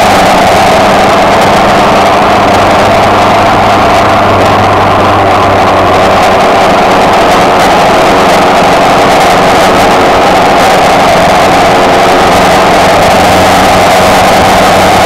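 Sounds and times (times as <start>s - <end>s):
motorcycle engine running: 0.0s - 15.0s
rush of wind and road noise: 0.0s - 15.0s.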